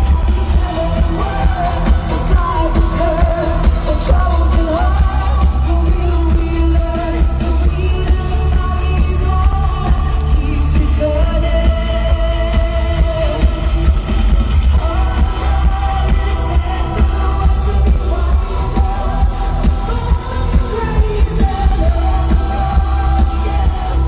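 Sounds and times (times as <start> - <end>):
symphonic metal band playing live: 0.0 - 24.0
woman singing lead vocal: 0.0 - 24.0.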